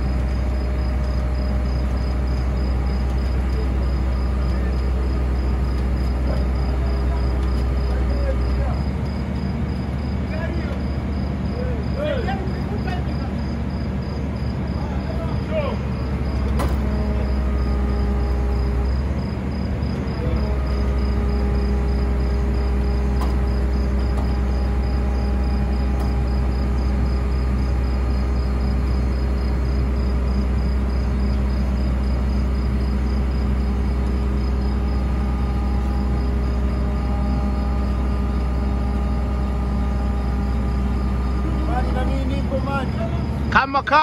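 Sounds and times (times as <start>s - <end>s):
crickets chirping: 0.0s - 44.0s
diesel engine droning: 0.0s - 44.0s.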